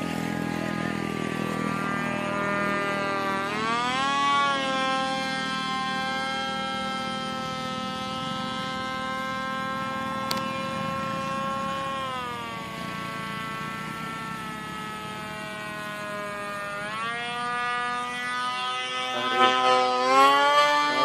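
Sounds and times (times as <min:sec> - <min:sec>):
model plane motor whine: 0:00.0 - 0:21.0.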